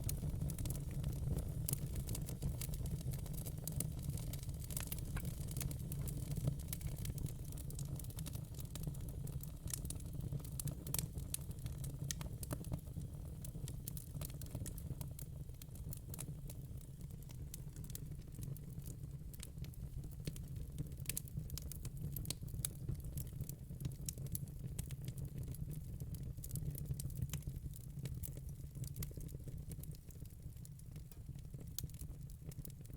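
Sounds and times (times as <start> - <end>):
fire crackling: 0.0 - 32.9.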